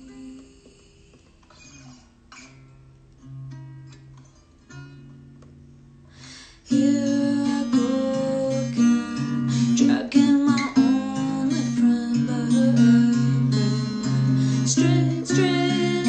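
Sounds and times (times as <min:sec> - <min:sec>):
acoustic guitar strumming: 0:01.4 - 0:16.0.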